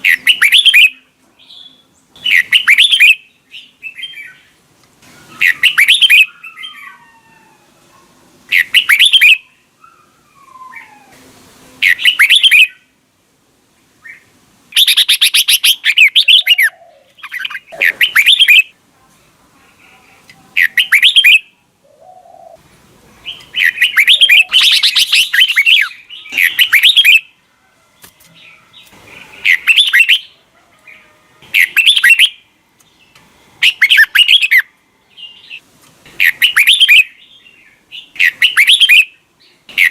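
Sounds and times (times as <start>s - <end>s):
bird singing loud phrases: 0.0s - 7.2s, 8.5s - 11.1s, 11.8s - 12.9s, 14.0s - 18.8s, 20.6s - 27.4s, 28.4s - 39.9s.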